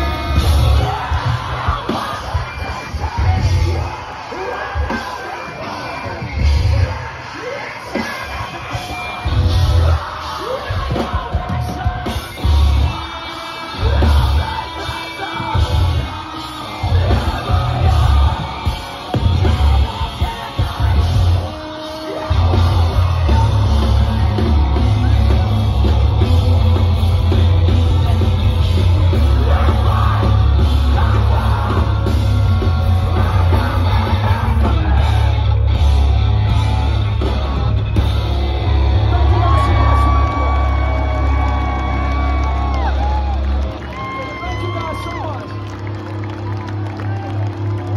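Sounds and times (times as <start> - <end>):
person singing: 0.0 - 43.0
drums and bass: 0.0 - 47.9
rock band playing loud: 0.0 - 47.9.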